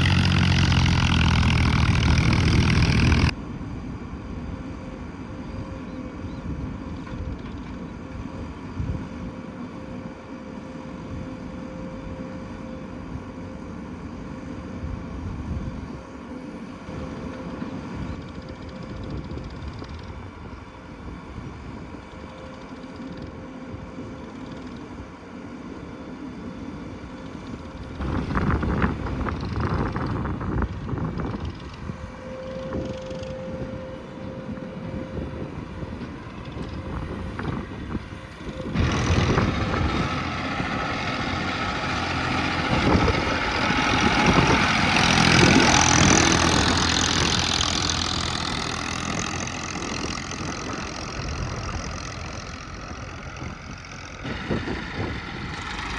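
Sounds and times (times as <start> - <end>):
diesel engines of heavy machinery: 0.0 - 55.9.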